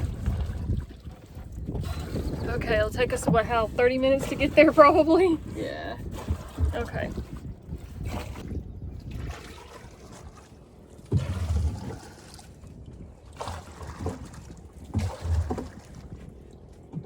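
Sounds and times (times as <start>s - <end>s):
oars pulling through water: 0.0s - 17.0s.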